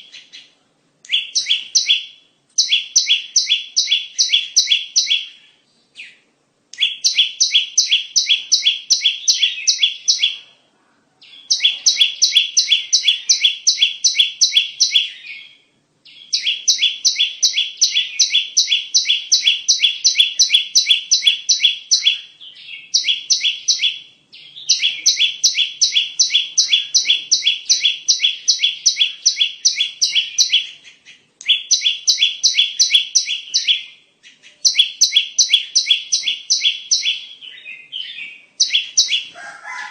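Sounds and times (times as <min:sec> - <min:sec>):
bird chirping rapidly: 0:01.1 - 0:06.2, 0:06.8 - 0:10.6, 0:11.2 - 0:39.9.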